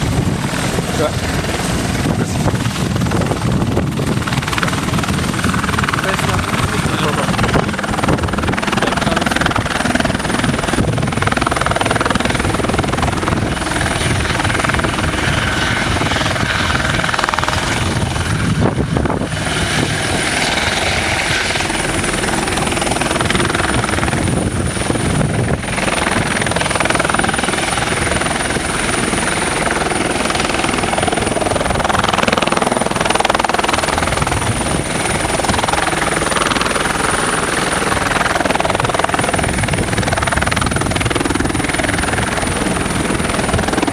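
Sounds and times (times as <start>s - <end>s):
helicopter hovering: 0.0s - 43.9s.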